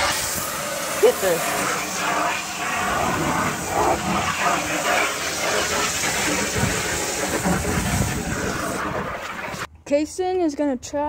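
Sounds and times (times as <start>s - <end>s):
hose spraying water on plastic: 0.0s - 9.7s.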